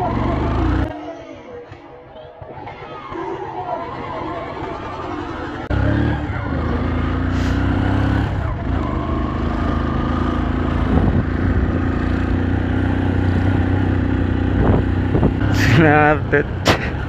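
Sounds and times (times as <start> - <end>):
motorcycle engine running: 0.0 - 1.0, 3.4 - 17.0.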